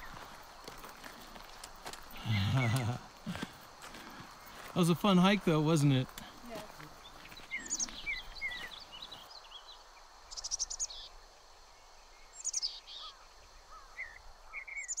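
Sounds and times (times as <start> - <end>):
faint outdoor hiss: 0.0 - 15.0
songbirds chirping and singing: 0.0 - 15.0.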